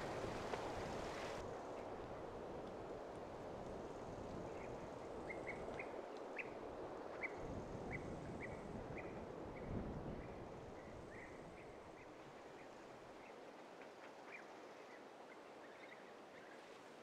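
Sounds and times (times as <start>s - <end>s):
wind in the trees: 0.0s - 17.0s.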